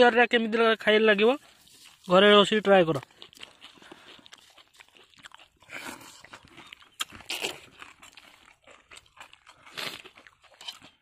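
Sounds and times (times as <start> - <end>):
puffed rice crunching: 0.6 - 11.0.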